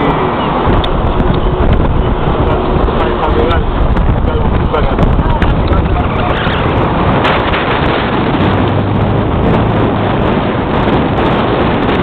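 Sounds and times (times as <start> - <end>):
vehicle driving rumble: 0.0 - 12.0
wind buffeting microphone: 0.0 - 12.0.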